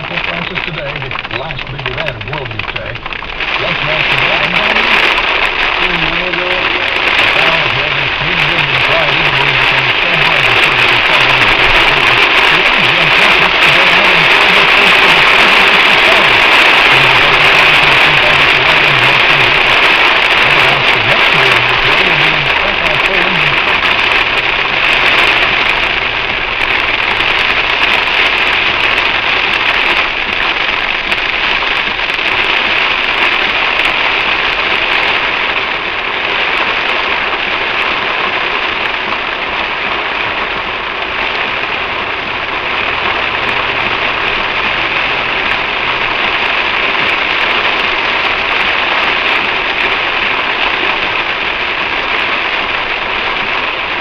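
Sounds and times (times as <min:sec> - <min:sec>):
heavy rain on a car: 0:00.0 - 0:54.0.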